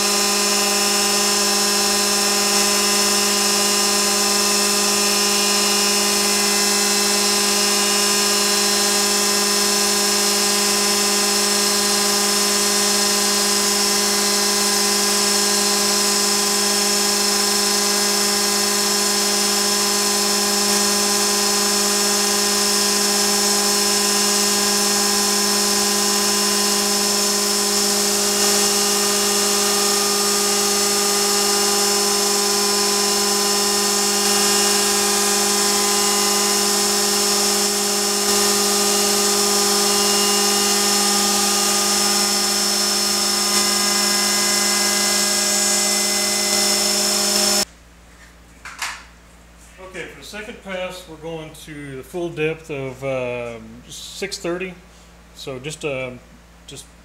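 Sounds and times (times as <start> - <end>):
milling machine whine: 0.0 - 47.7
shop vacuum hissing: 0.0 - 47.7.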